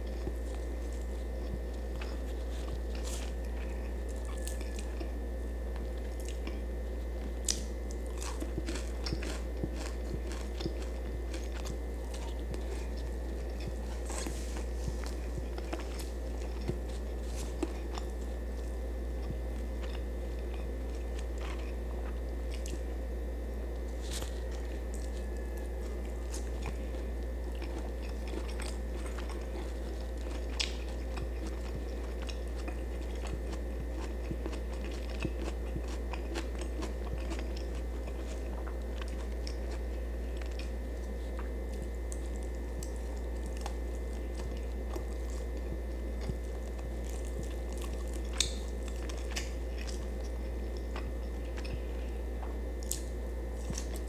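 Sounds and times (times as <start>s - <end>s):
person chewing food: 0.0s - 23.0s, 23.7s - 54.0s
steady low hum: 0.0s - 54.0s.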